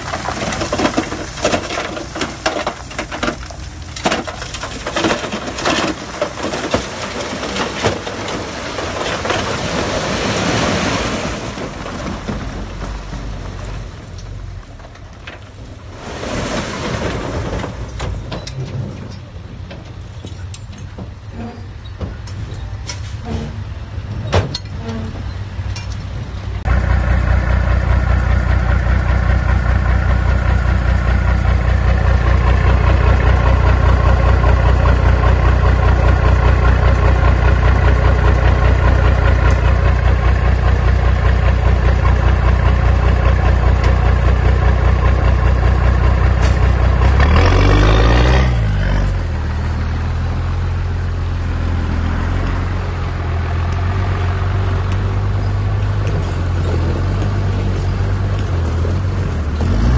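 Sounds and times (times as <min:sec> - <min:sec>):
bulldozer diesel engine running: 0:00.0 - 0:10.5, 0:11.4 - 0:16.0, 0:17.0 - 0:59.9.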